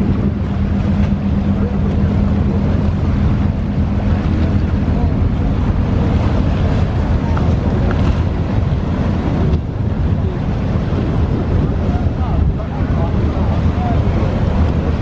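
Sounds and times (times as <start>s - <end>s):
boat engine low drone: 0.0s - 15.0s
choppy water washing: 0.0s - 15.0s
wind buffeting microphone: 0.0s - 15.0s.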